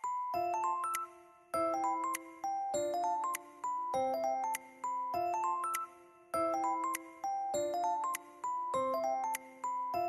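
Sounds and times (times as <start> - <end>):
light cheerful background music: 0.0 - 10.0.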